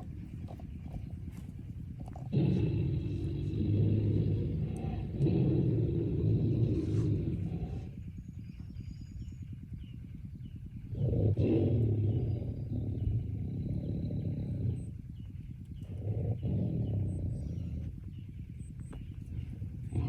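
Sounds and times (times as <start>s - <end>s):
tiger growling and roaring: 0.0s - 20.0s.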